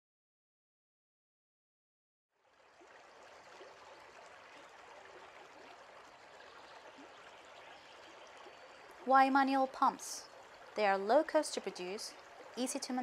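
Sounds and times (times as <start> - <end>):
faint running water: 2.4 - 13.0.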